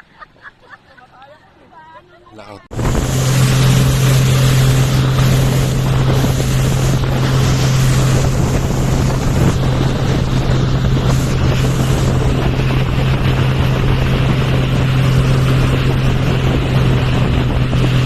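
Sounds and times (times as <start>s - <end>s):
motorboat engine humming: 0.0s - 18.0s
rushing water: 2.7s - 18.0s
wind buffeting microphone: 2.7s - 18.0s.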